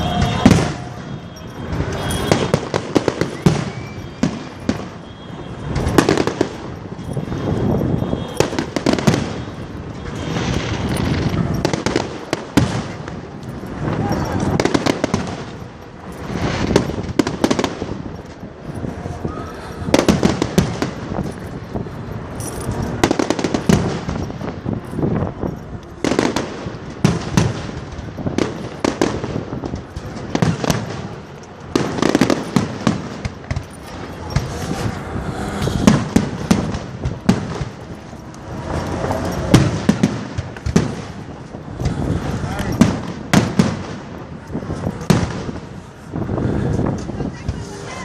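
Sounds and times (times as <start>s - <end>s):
fireworks bangs: 0.0s - 48.0s
fireworks crackling: 0.0s - 48.0s.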